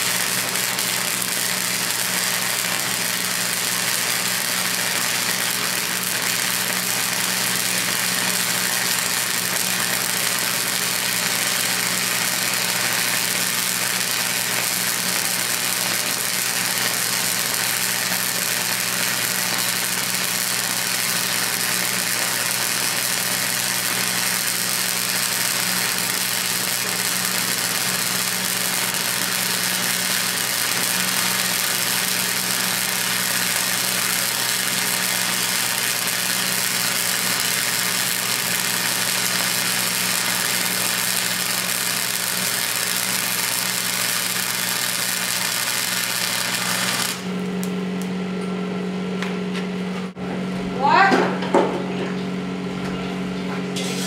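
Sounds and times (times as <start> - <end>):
welder arc crackling: 0.0 - 50.1.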